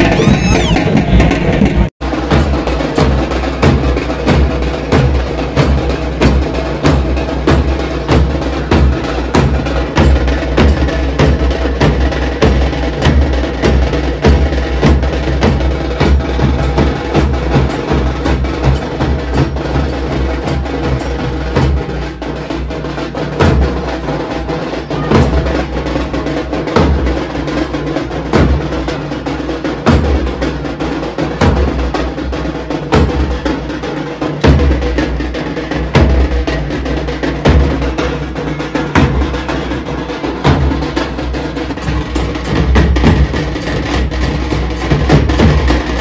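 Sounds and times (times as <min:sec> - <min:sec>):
loud drum strikes: 0:00.0 - 0:46.0.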